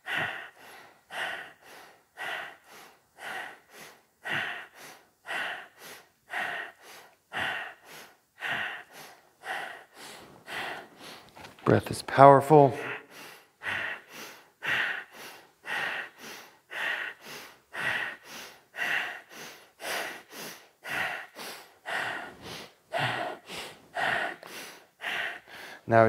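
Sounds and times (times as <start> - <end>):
rapid rhythmic nose breathing: 0.0 - 11.6, 12.8 - 25.9.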